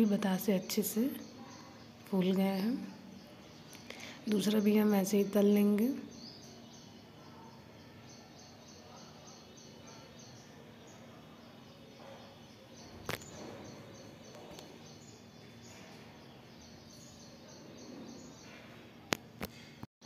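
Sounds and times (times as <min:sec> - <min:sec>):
faint high chirping: 0:00.0 - 0:19.2.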